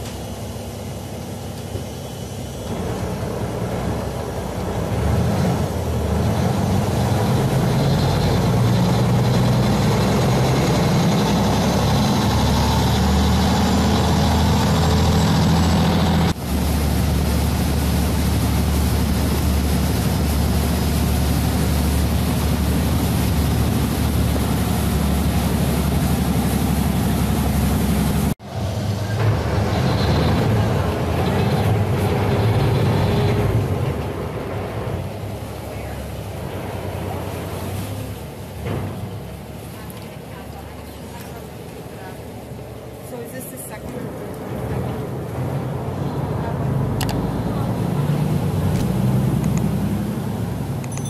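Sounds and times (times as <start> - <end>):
boat engine rumbling: 0.0 - 51.0.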